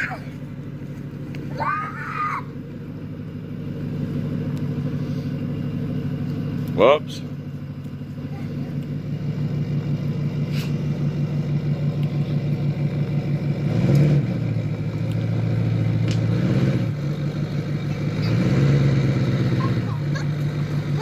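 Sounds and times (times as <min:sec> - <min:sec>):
pickup truck engine running: 0:00.0 - 0:21.0.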